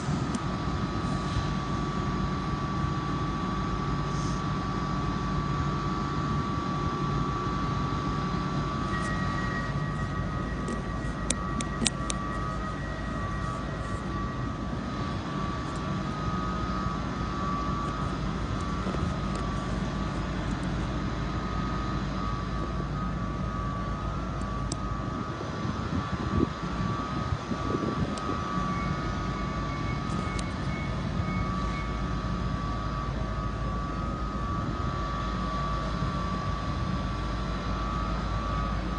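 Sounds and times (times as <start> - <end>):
train hum with high whine: 0.0 - 38.9.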